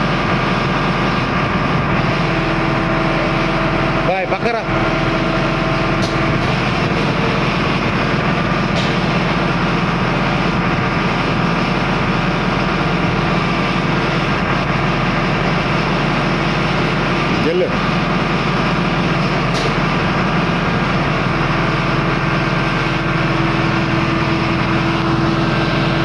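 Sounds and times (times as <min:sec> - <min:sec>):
hydraulic whine: 0:00.0 - 0:26.0
tractor diesel engine running: 0:00.0 - 0:26.0.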